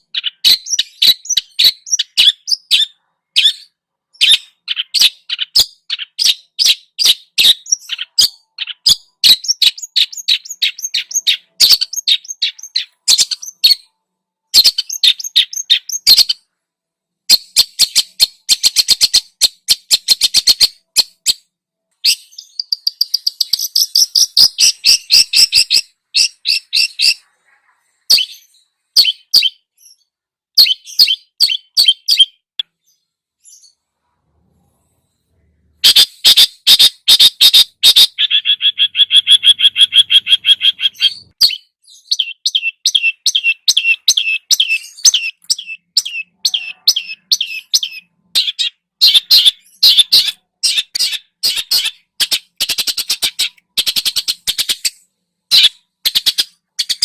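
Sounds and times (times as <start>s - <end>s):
songbird chattering song: 0.0s - 16.5s, 17.3s - 21.4s, 22.0s - 33.8s, 35.8s - 57.0s.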